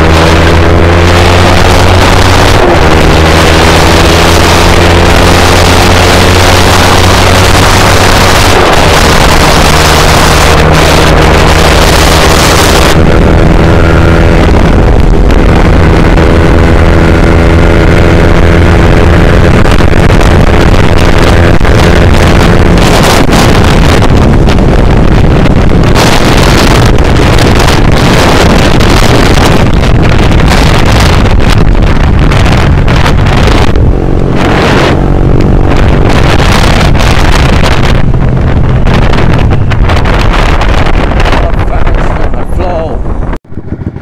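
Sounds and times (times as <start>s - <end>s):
motorcycle engine running: 0.0s - 44.0s
wind rushing over microphone: 0.0s - 44.0s.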